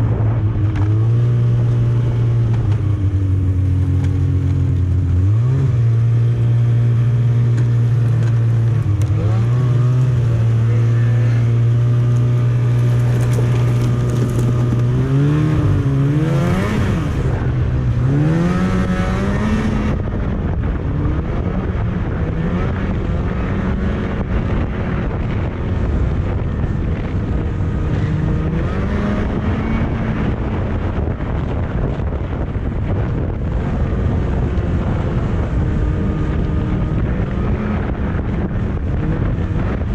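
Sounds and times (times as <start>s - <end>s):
snowmobile engine running: 0.0s - 39.9s
wind on microphone: 0.0s - 39.9s.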